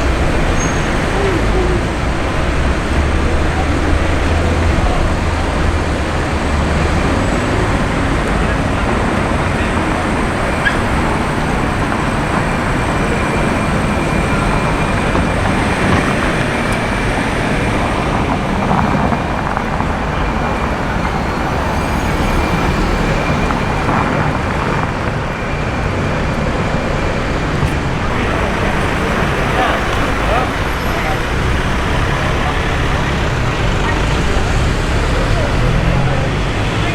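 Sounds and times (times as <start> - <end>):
street traffic noise: 0.0 - 36.9.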